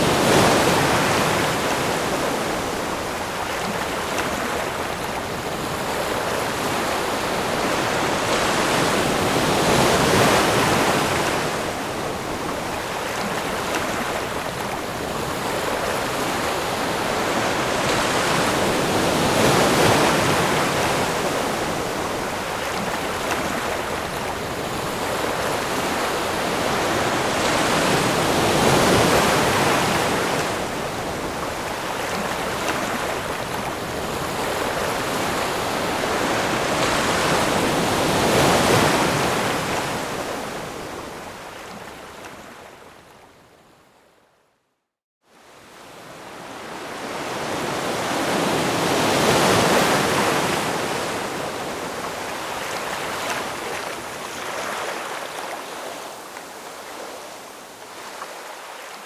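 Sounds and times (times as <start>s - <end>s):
ocean waves breaking: 0.0s - 42.8s, 45.6s - 59.0s.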